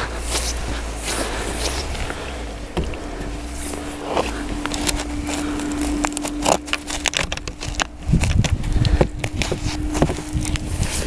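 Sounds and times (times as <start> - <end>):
footsteps crunching through snow: 0.0 - 11.0
steady low hum: 0.0 - 11.0
wind rumble on microphone: 0.0 - 11.0.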